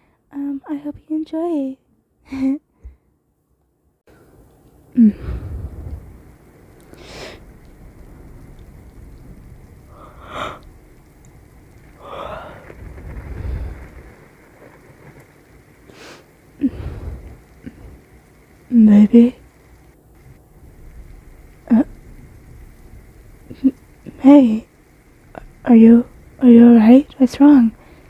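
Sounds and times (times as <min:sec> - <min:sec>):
steady rain hiss: 0:04.1 - 0:28.0
low rolls of thunder: 0:05.0 - 0:28.0.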